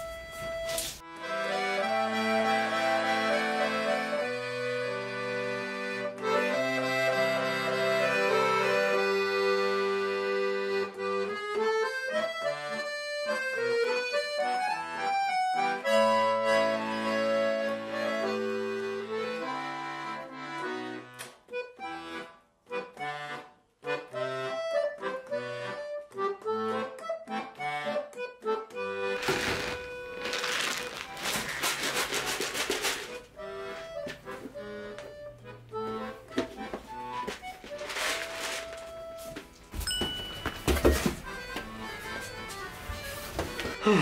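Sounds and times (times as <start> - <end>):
solo accordion melody: 0.0 - 44.0.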